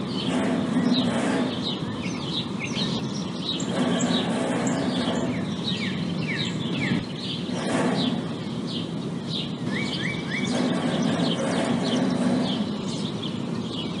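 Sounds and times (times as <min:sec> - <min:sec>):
low machine hum: 0:00.0 - 0:14.0
songbirds chirping: 0:00.0 - 0:14.0.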